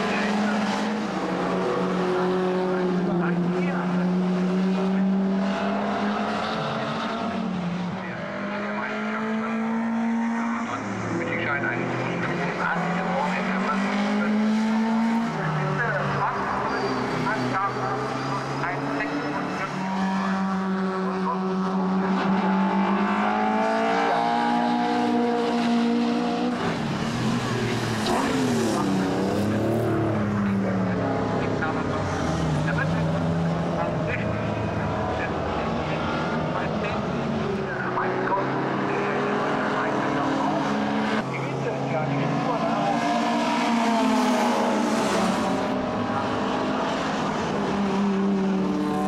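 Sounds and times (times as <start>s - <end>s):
racing car engine: 0.0s - 49.0s.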